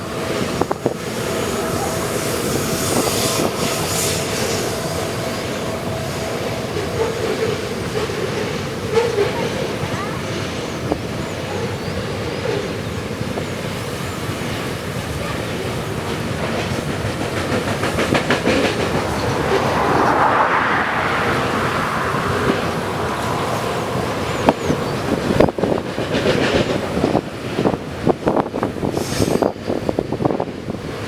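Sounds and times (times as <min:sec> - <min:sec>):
train wheels clacking on rails: 0:00.0 - 0:31.0.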